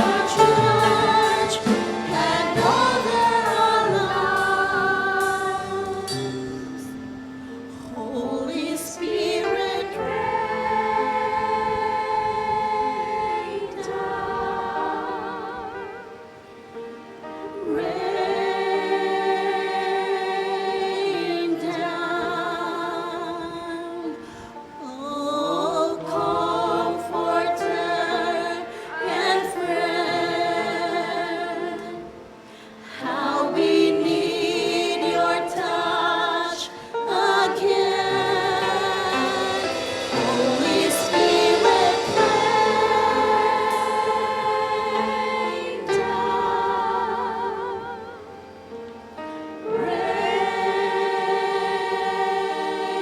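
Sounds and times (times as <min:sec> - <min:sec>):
group singing worship song: 0:00.0 - 0:16.5, 0:17.4 - 0:53.0.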